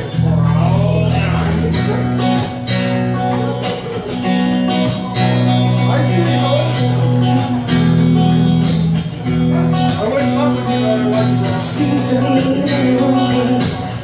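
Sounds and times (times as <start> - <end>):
guitar-led instrumental music: 0.0 - 14.0.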